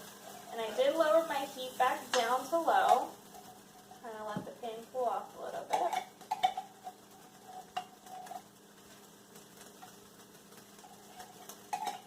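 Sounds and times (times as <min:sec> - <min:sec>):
utensil scraping soup in a pan: 0:00.0 - 0:04.2, 0:05.5 - 0:12.0.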